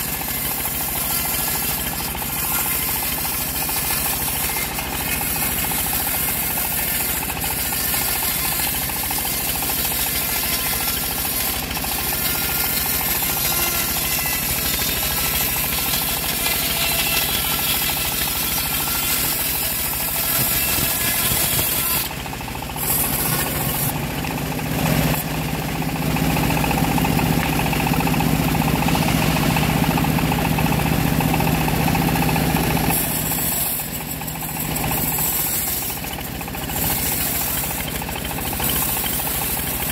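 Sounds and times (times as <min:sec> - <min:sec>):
bandsaw cutting through log: 0:00.0 - 0:39.9.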